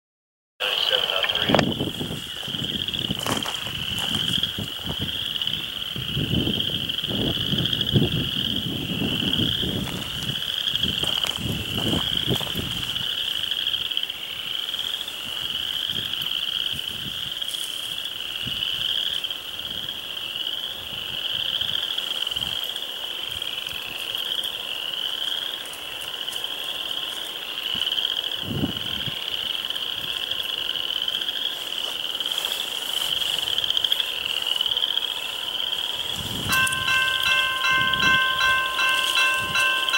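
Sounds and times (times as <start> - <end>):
frogs calling in chorus: 0.6 - 39.9.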